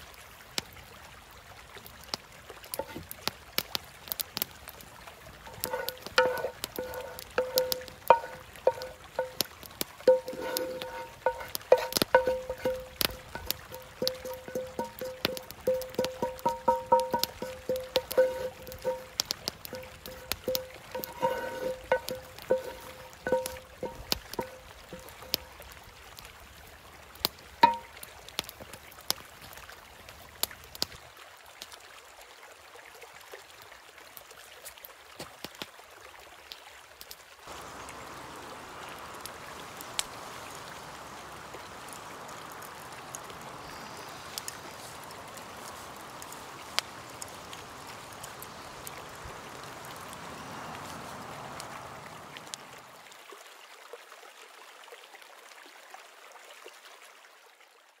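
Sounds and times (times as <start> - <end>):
rocky stream flowing: 0.0 - 58.0.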